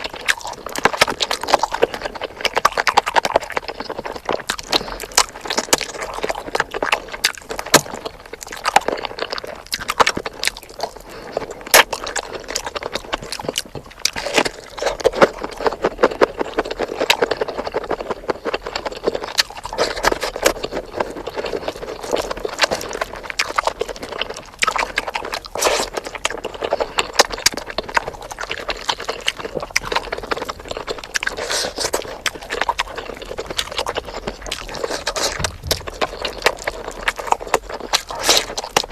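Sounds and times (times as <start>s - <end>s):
person chewing and smacking: 0.0s - 38.9s.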